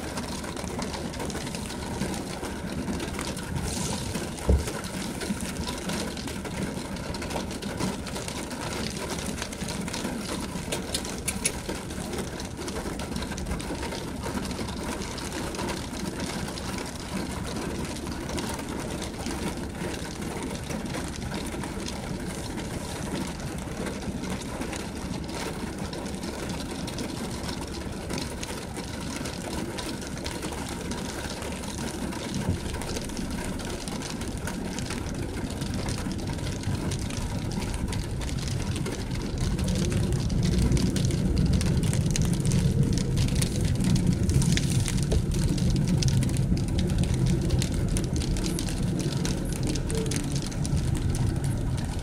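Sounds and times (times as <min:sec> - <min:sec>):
rain ticking on windshield: 0:00.0 - 0:52.0.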